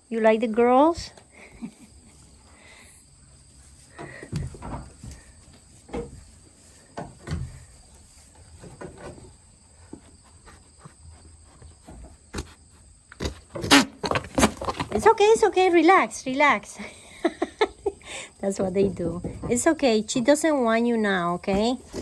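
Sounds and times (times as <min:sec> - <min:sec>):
goats knocking and shuffling: 0:00.9 - 0:22.0.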